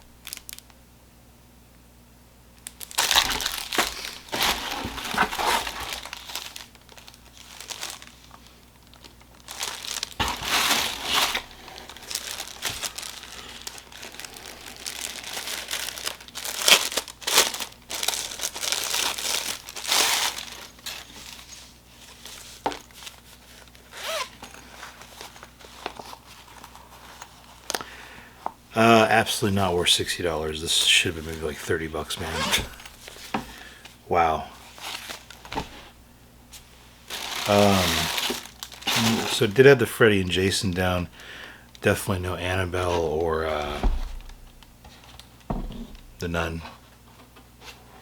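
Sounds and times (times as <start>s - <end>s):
packaging crinkling and tearing: 0.2s - 0.7s, 2.6s - 27.9s, 29.1s - 33.7s, 34.6s - 35.6s, 37.0s - 46.3s.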